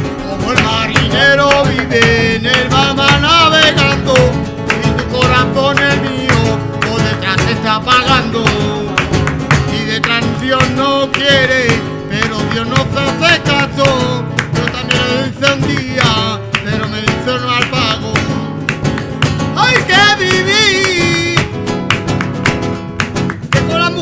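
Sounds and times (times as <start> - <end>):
person singing wordless melody: 0.0 - 18.8, 19.5 - 21.6, 23.6 - 24.0
acoustic guitar strumming: 0.0 - 24.0.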